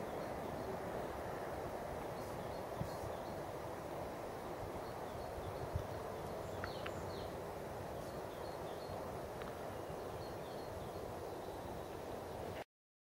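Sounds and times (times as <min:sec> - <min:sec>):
small birds chirping: 0:00.0 - 0:01.2, 0:02.0 - 0:12.6.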